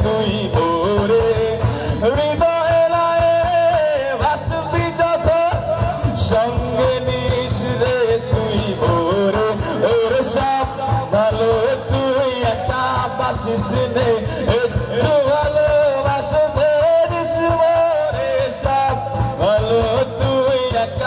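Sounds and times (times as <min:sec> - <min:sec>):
acoustic guitar: 0:00.0 - 0:21.0
man singing: 0:00.0 - 0:21.0.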